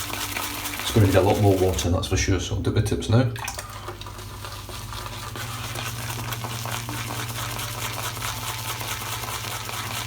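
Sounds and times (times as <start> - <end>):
shaving brush whisking lather: 0.0 - 3.0, 3.9 - 10.0.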